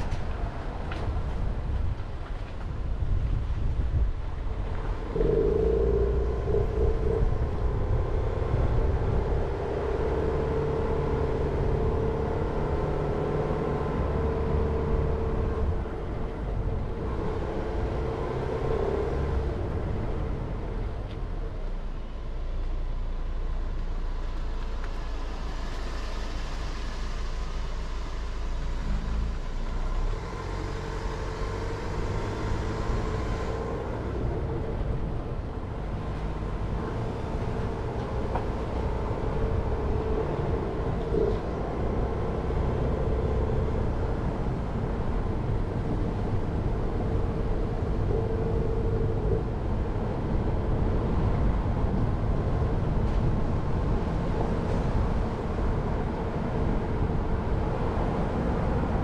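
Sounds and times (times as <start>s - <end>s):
car engine: 0.0s - 59.0s.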